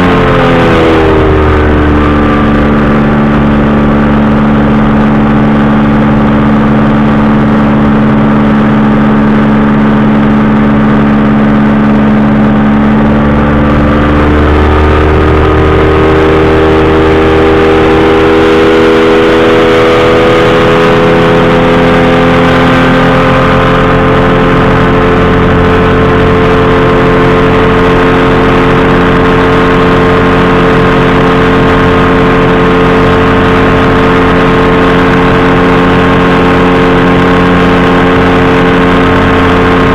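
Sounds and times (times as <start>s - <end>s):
engine and propeller running: 0.0s - 39.9s.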